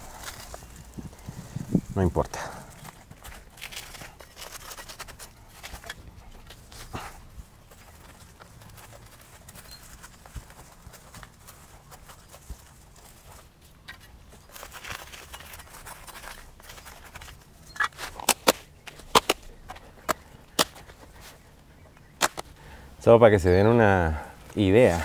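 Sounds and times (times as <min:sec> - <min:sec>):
rustling leaves and soil: 0:00.0 - 0:25.0.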